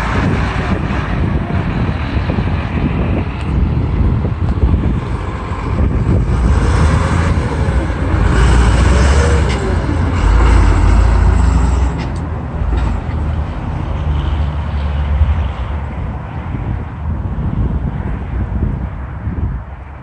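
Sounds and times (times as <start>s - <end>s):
truck engine rumbling: 0.0s - 19.8s.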